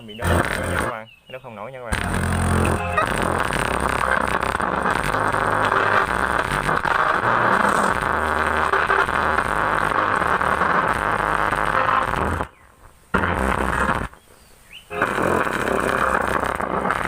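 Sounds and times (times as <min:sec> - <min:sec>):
low bass pulses: 0:00.0 - 0:01.0, 0:01.9 - 0:12.6, 0:14.9 - 0:17.0
overdriven loudspeaker harsh noise: 0:00.0 - 0:01.1, 0:01.9 - 0:12.5, 0:13.2 - 0:14.2, 0:14.9 - 0:17.0.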